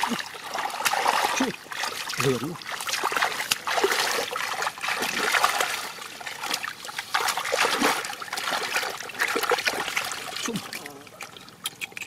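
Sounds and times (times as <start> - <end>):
splashing in muddy water: 0.0 - 12.0.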